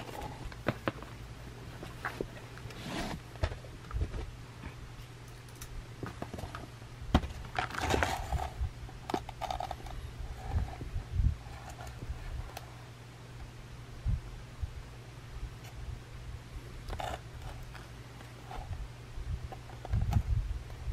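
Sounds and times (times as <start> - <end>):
low steady hum: 0.0 - 20.9.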